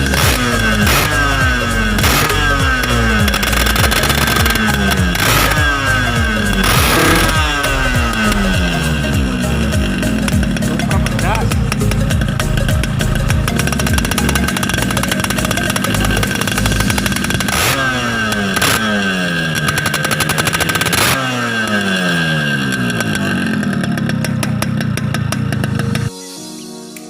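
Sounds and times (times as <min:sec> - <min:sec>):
two-stroke engine revving: 0:00.0 - 0:26.1.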